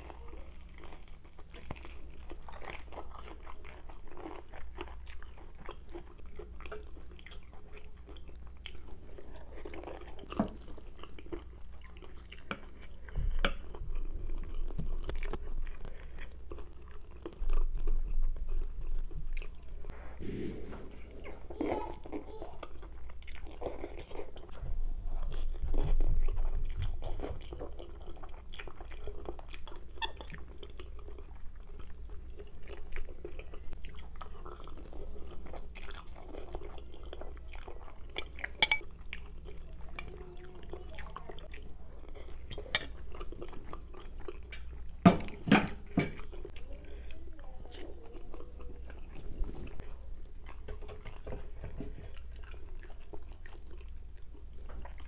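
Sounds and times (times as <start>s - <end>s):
chewing spaghetti: 0.0s - 55.0s.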